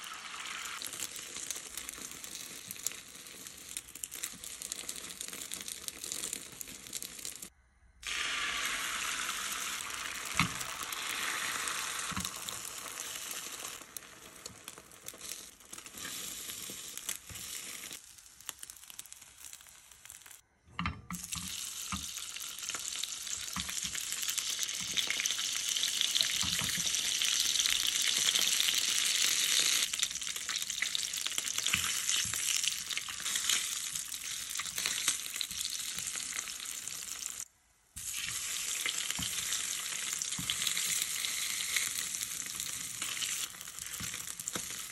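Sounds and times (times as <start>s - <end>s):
oil sizzling in a pan: 0.0s - 20.4s, 21.1s - 44.9s.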